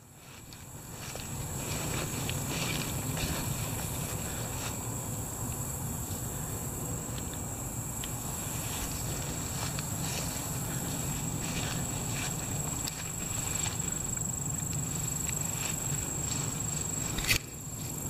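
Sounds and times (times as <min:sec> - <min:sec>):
footsteps swishing through grass: 0:00.0 - 0:05.0, 0:08.2 - 0:18.0
high-pitched insect drone: 0:00.0 - 0:18.0.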